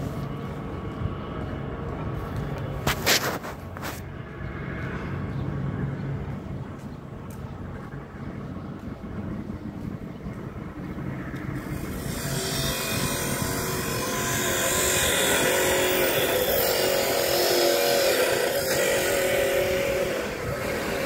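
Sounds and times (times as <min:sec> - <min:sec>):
vehicle passing by: 0:00.0 - 0:21.0.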